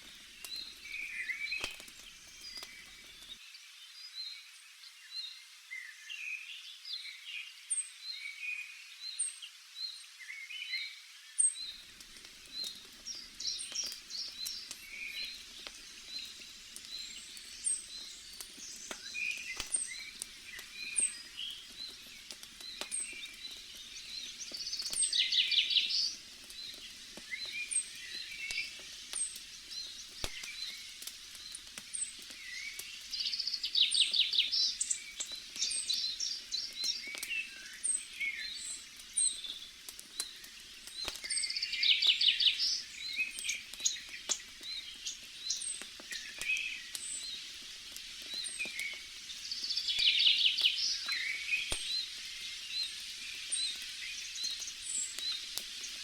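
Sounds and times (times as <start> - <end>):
campfire crackling: 0.0 - 3.4, 11.4 - 56.0.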